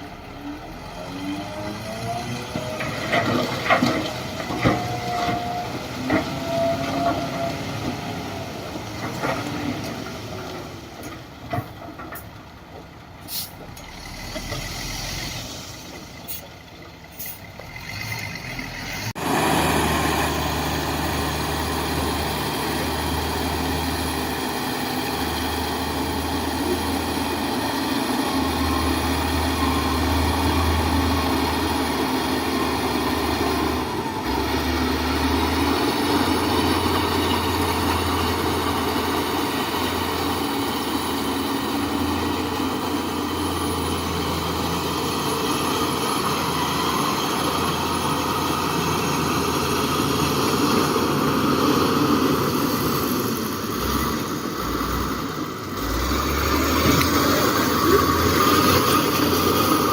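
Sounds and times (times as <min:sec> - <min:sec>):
loud diesel engine: 0:00.0 - 0:59.9.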